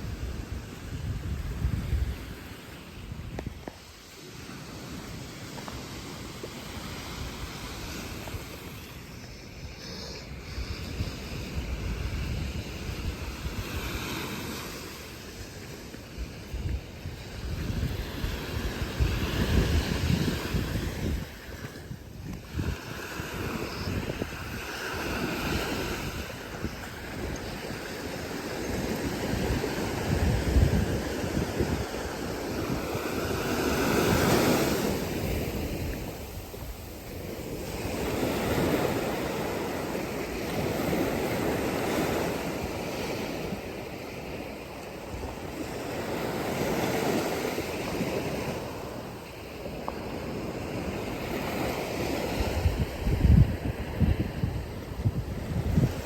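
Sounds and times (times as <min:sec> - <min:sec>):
sea waves washing in: 0:00.0 - 0:56.0
wind buffeting microphone: 0:00.0 - 0:56.0.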